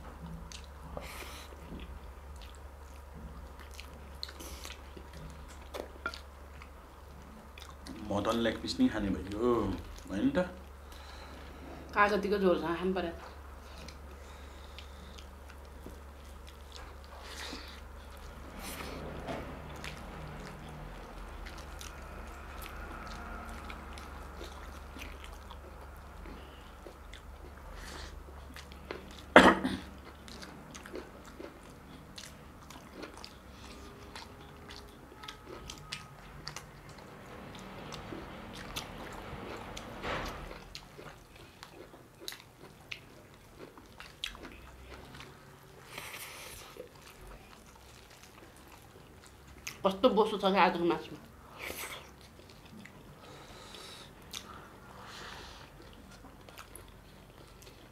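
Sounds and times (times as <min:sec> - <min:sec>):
person chewing food: 0:00.0 - 0:11.8, 0:13.2 - 0:49.8, 0:51.2 - 0:57.9.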